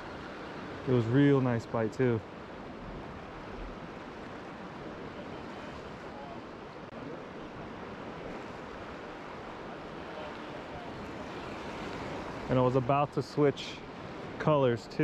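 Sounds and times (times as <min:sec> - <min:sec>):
surf washing against rocks: 0:00.0 - 0:15.0
wind: 0:00.0 - 0:15.0.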